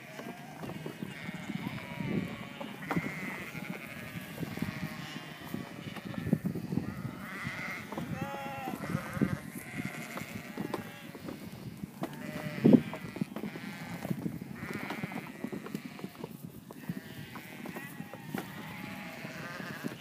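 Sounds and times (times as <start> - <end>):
sheep bleating: 0.0 - 11.5, 12.1 - 14.0, 16.8 - 20.0.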